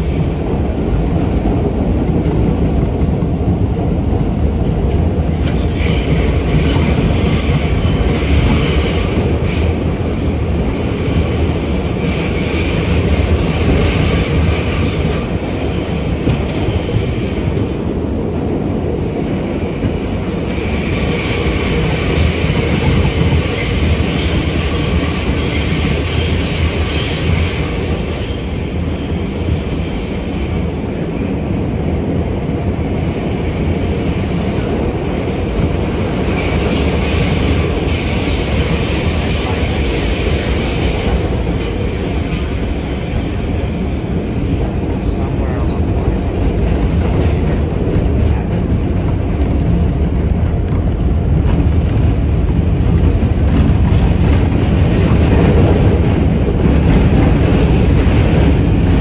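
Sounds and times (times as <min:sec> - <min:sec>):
hissing wheel-on-rail noise: 0:00.0 - 0:59.0
subway train wheels rumbling on rails: 0:00.0 - 0:59.0.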